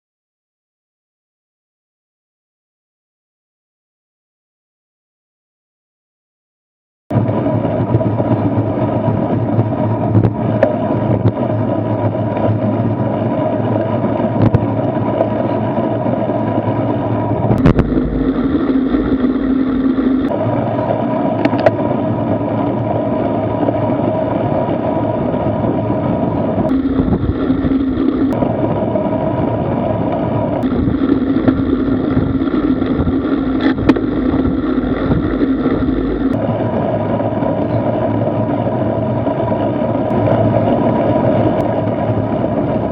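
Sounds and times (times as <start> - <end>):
wind and road rushing: 7.1 - 42.9.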